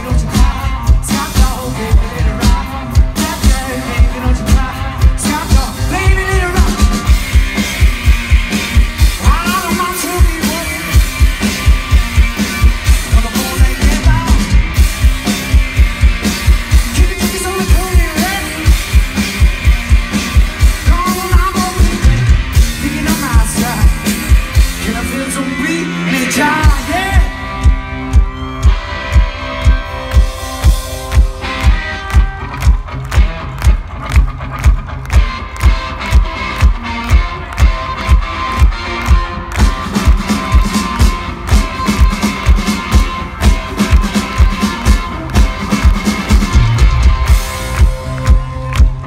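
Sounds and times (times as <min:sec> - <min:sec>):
driving drum beat: 0:00.0 - 0:49.0
electric guitar: 0:00.0 - 0:49.0.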